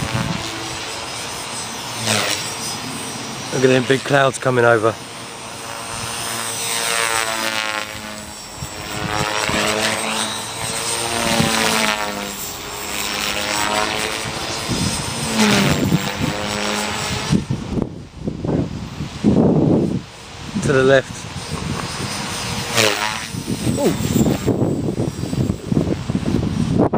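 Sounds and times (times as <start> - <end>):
radio-controlled helicopter flying: 0.0 - 26.9.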